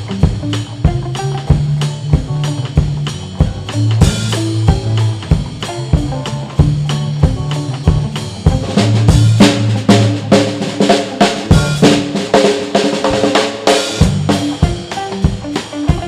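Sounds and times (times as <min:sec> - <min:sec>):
blues band playing: 0:00.0 - 0:16.0
snare and bass drum beat: 0:00.0 - 0:16.0.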